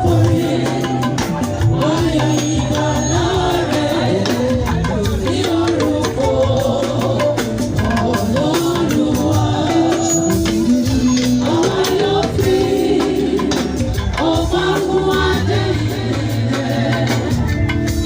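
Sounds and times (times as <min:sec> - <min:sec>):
choir singing gospel over band: 0:00.0 - 0:18.0
rattling percussion: 0:00.0 - 0:18.0.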